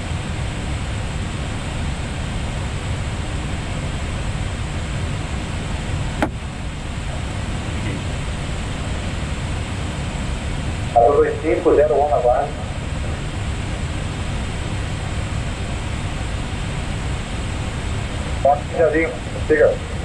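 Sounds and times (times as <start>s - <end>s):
rushing cockpit noise: 1.0s - 20.0s.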